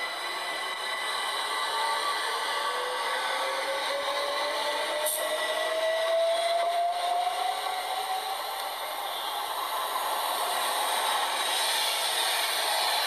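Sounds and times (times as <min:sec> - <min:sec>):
train rolling noise: 0:00.0 - 0:13.0
train traction motor whine: 0:00.0 - 0:13.0.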